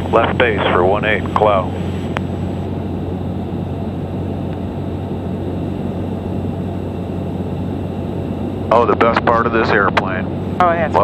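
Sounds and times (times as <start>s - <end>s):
airplane engine droning: 0.0s - 11.0s.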